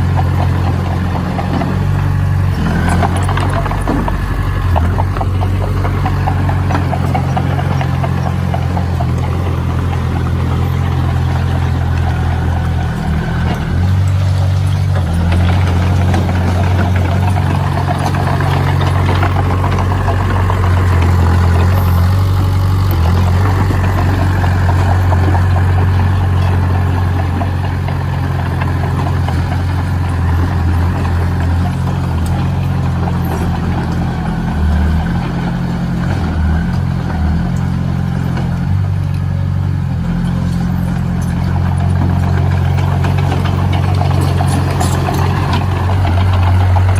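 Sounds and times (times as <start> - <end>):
heavy machine engine running: 0.0 - 46.9.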